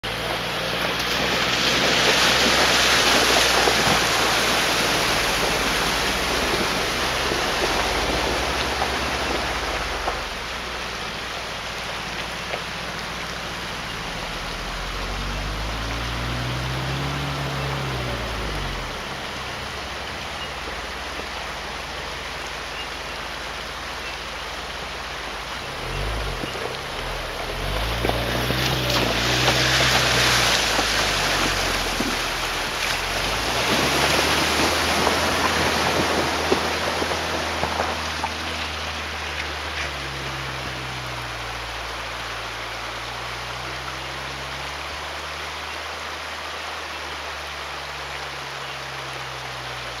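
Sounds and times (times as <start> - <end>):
vehicle engine at low revs: 0.0 - 50.0
water splashing and rushing: 0.0 - 50.0.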